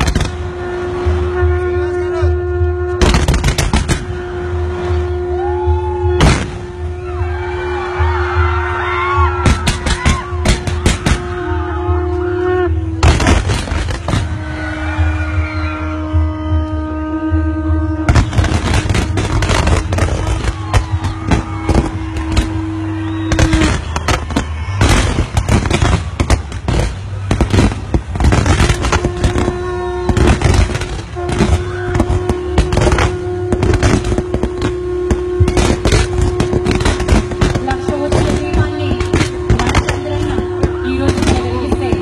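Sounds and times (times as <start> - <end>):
fireworks bangs and crackles: 0.0 - 11.6, 12.9 - 16.1, 18.1 - 42.0.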